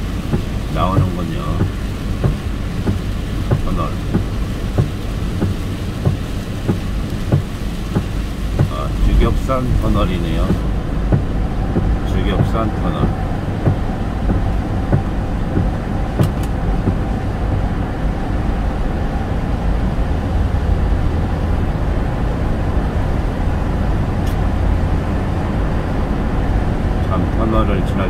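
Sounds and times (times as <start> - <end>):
car road noise inside cabin: 0.0 - 28.0.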